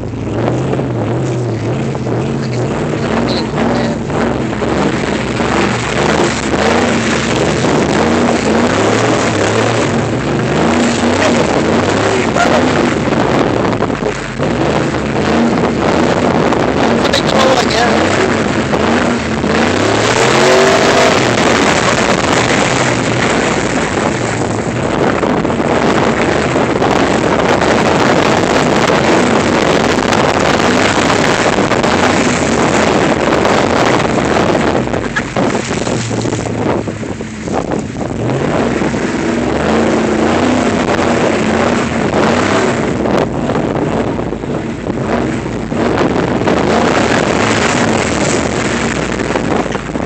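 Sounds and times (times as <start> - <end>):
loud rushing noise: 0.0 - 50.0
vehicle engine revving: 0.0 - 50.0.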